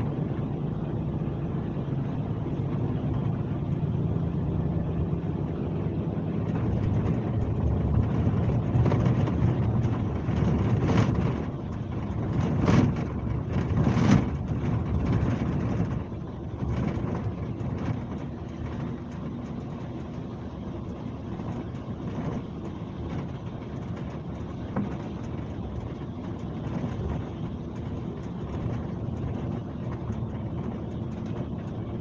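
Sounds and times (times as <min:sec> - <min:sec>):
bus diesel engine running: 0:00.0 - 0:32.0
bus jolts: 0:00.0 - 0:32.0.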